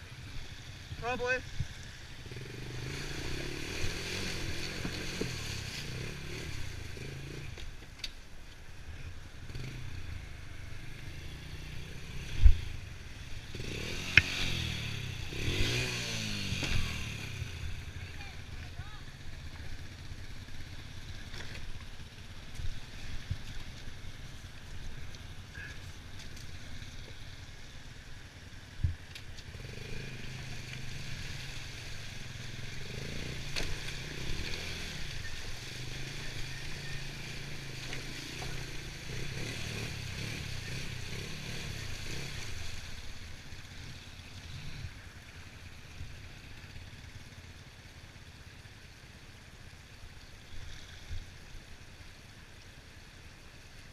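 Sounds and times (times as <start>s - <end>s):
quad bike engine running: 0.0s - 7.8s, 8.8s - 51.6s.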